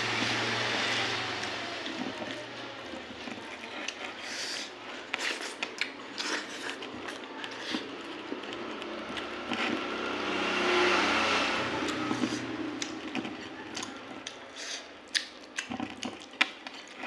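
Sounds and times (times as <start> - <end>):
person chewing food: 1.1 - 10.4, 11.8 - 17.0.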